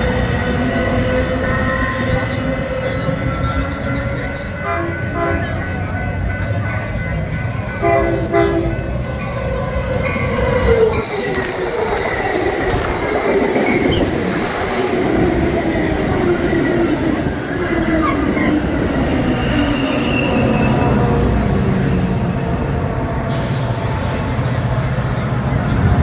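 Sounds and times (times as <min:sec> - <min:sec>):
steel wheels squealing on rails: 0:00.0 - 0:26.0
train passing: 0:00.0 - 0:26.0.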